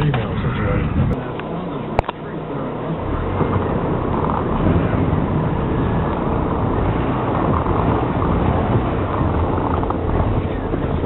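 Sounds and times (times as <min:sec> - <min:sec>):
car engine running: 0:00.0 - 0:11.0
tyres rumbling on snow: 0:00.0 - 0:11.0.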